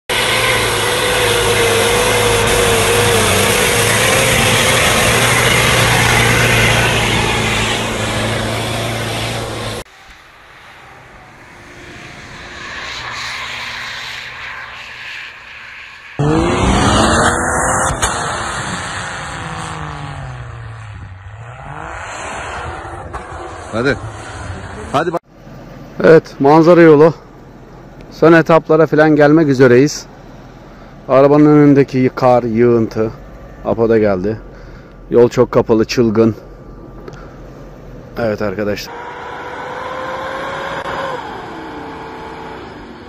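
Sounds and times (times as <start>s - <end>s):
suv engine straining in snow: 0.1s - 9.9s, 16.2s - 43.0s.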